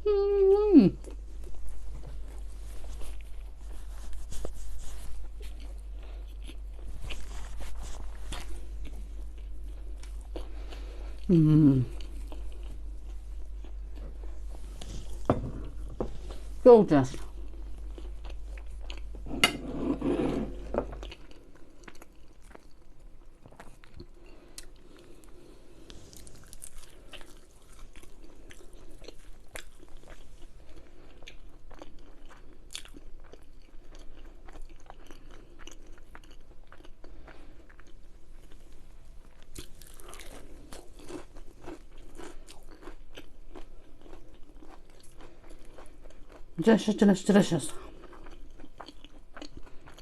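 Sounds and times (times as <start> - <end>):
person chewing crunchy food: 1.0 - 46.7, 47.6 - 50.0.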